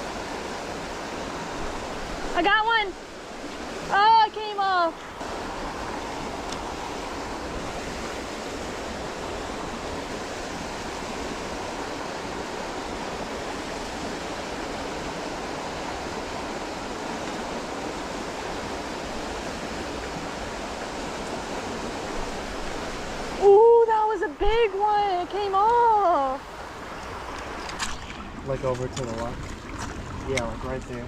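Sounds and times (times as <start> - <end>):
fast-flowing creek water: 0.0 - 31.0.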